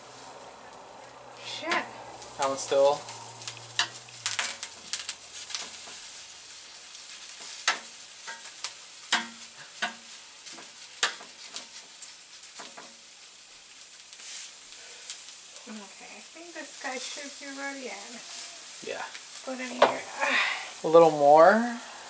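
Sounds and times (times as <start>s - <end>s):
vegetables sizzling in a pan: 0.0s - 22.0s
sharp pops and ticks: 0.7s - 18.2s, 18.8s - 20.1s.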